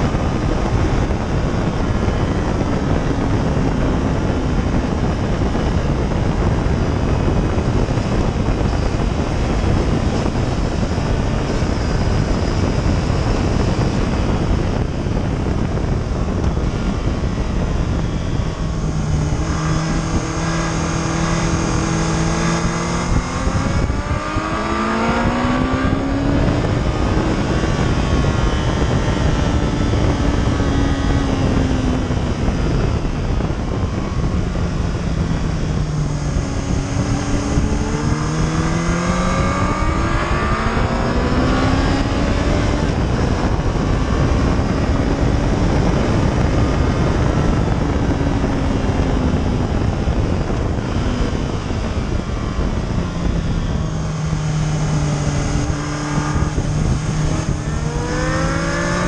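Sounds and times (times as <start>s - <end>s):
motorcycle engine accelerating: 0.0s - 59.0s
wind rush over microphone: 0.0s - 59.0s.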